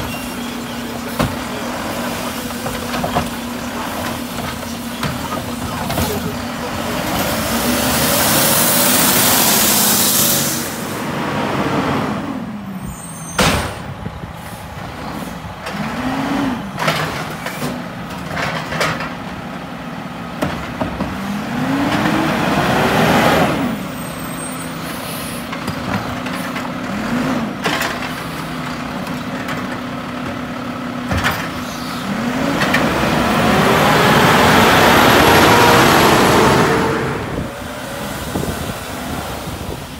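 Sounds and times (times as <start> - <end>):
garbage truck diesel engine revving: 0.0 - 12.7, 14.6 - 18.0, 19.1 - 39.9.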